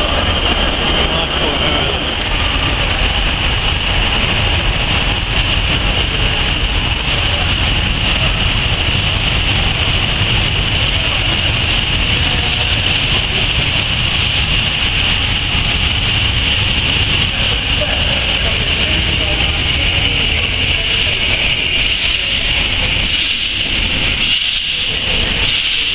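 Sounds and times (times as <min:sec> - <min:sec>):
low rumble of moving coaches: 0:00.0 - 0:25.9
steam locomotive hissing: 0:00.0 - 0:25.9.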